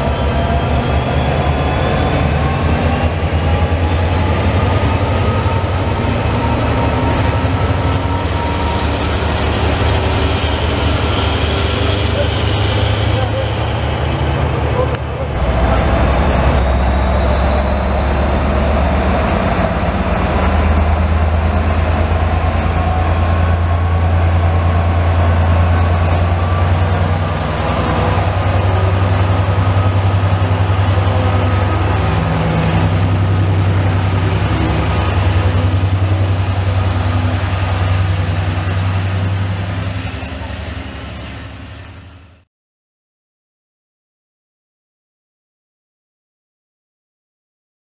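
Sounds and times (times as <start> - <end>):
train wheels rumbling: 0.0 - 42.4
locomotive engine drone: 0.0 - 42.5.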